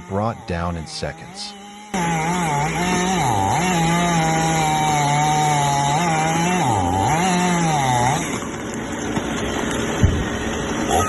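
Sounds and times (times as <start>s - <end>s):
chainsaw engine at high revs: 0.0s - 11.0s.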